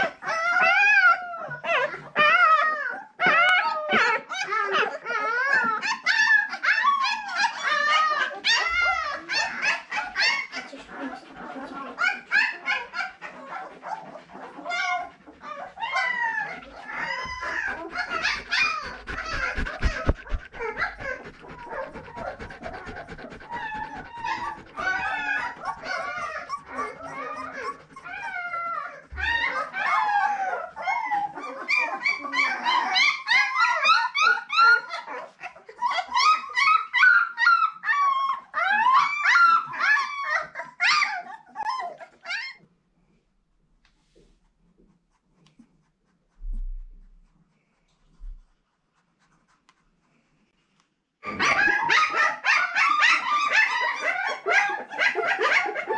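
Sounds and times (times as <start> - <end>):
puppies whining and squealing: 0.0 - 43.2, 51.2 - 55.9.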